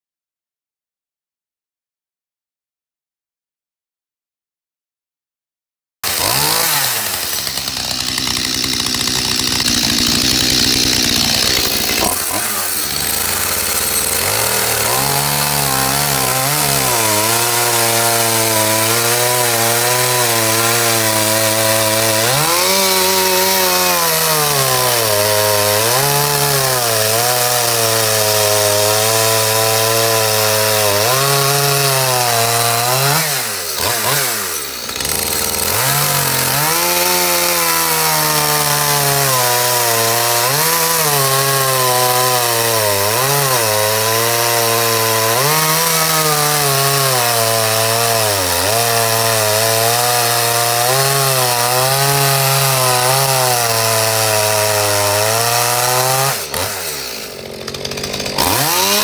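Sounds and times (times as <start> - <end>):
chainsaw cutting through log: 6.0 - 59.0.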